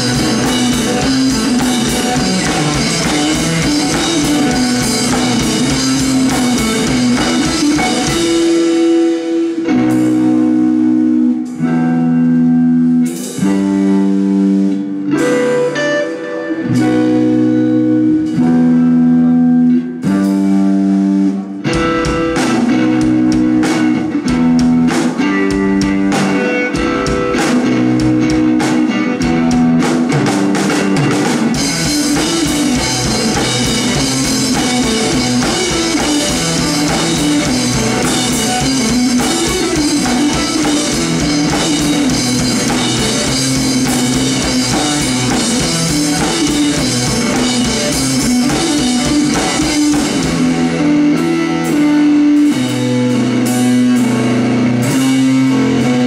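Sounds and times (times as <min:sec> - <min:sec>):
drum kit: 0:00.0 - 0:56.0
electric guitar riff: 0:00.0 - 0:56.0.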